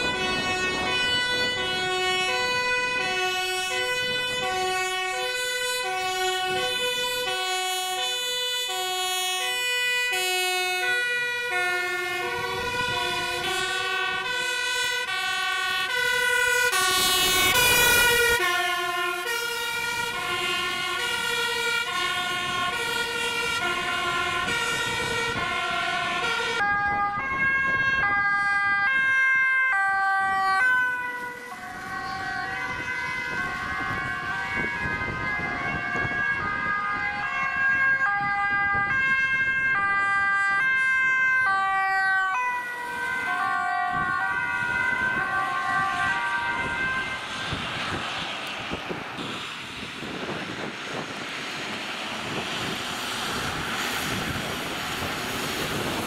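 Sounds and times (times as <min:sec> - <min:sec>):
road noise of passing vehicle: 0:00.0 - 0:56.0
two-tone emergency sirens: 0:00.0 - 0:56.0.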